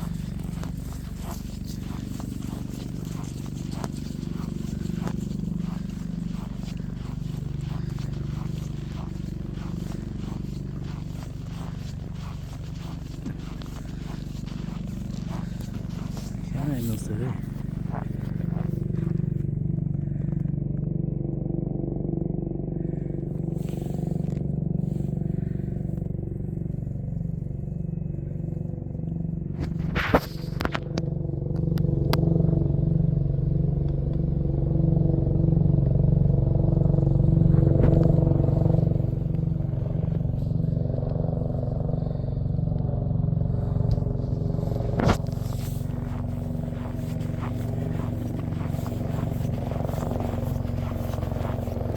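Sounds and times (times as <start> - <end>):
engine running with pulsing hum: 0.0 - 51.9.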